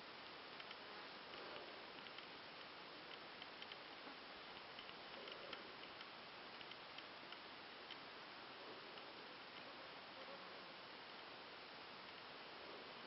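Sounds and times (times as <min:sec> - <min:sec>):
faint steady hiss: 0:00.0 - 0:13.0
faint ticks: 0:00.1 - 0:13.0.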